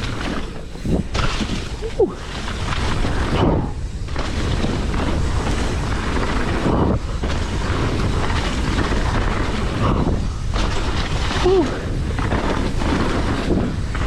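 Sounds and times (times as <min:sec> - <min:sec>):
mountain bike tyre and frame rumble: 0:00.0 - 0:14.0
wind rushing over microphone: 0:00.0 - 0:14.0.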